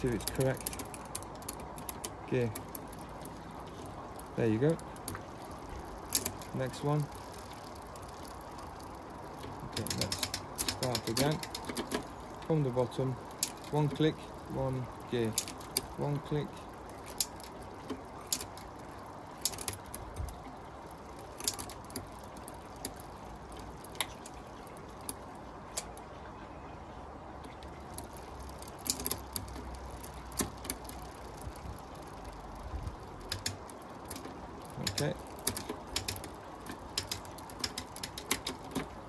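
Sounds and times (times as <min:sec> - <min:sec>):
bicycle gear shifter clicking: 0:00.0 - 0:12.5, 0:16.8 - 0:24.4, 0:27.7 - 0:38.9
bicycle chain ticking and rattling: 0:00.0 - 0:26.0, 0:27.6 - 0:39.0.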